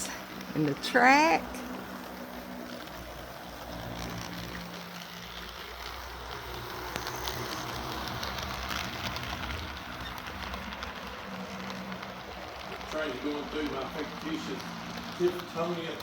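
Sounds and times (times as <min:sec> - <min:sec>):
model train wheels rattling on rail: 0:00.0 - 0:16.0.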